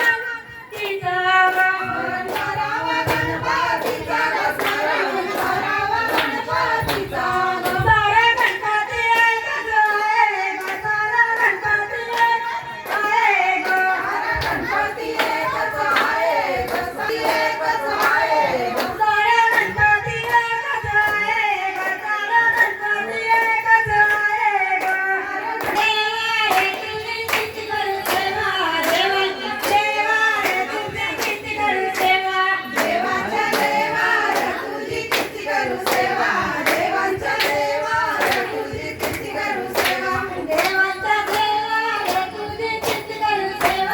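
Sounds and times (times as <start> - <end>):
hand claps: 0.0 - 43.9
woman singing devotional song: 0.0 - 43.9.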